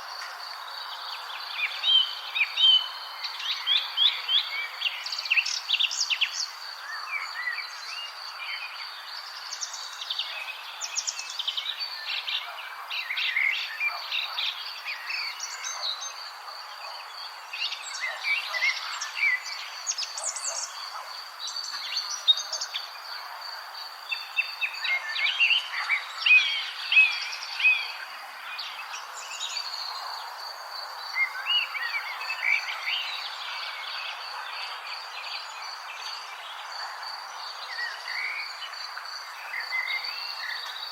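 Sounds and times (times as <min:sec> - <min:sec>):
soft outdoor ambience hiss: 0:00.0 - 0:40.9
songbirds chirping and trilling: 0:00.0 - 0:40.9.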